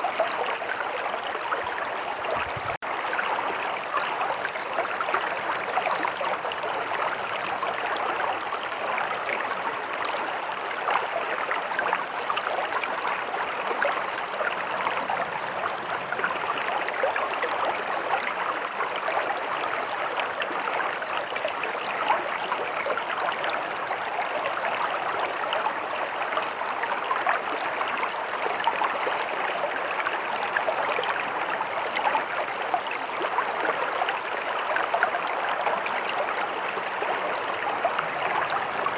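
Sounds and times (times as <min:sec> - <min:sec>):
stream water over stones: 0:00.0 - 0:38.9.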